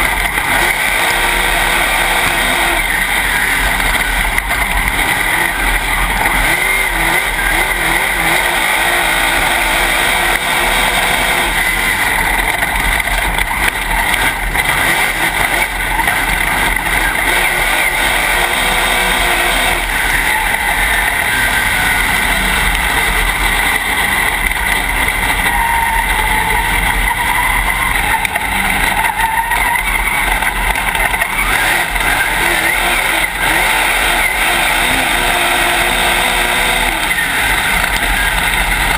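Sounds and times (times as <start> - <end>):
racing engine running hard: 0.0 - 38.9
track noise: 0.0 - 38.9.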